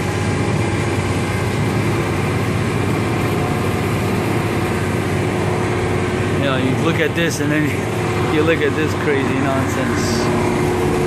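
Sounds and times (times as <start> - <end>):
mechanical hum of fans and motors: 0.0 - 11.0.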